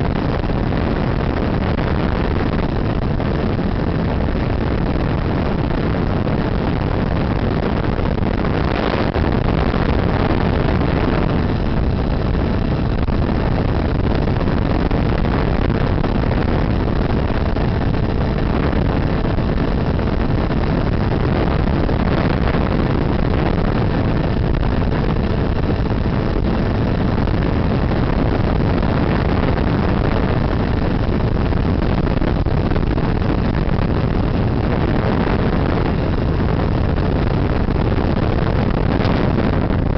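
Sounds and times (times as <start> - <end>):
wind rushing: 0.0 - 39.9.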